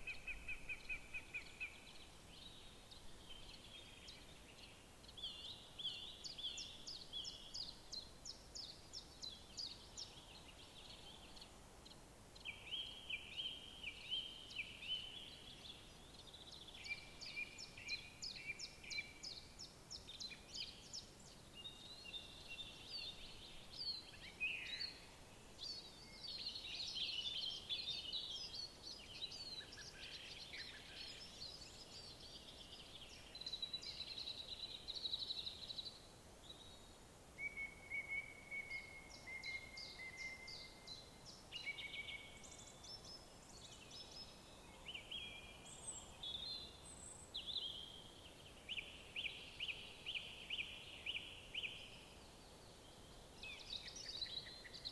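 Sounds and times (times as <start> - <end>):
faint background hiss: 0.0 - 54.9
songbirds chirping and trilling: 0.0 - 54.9.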